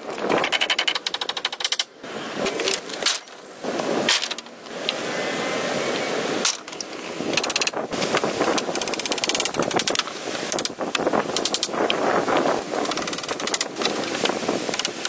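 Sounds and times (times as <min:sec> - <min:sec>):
steady rustling hiss: 0:00.0 - 0:15.0.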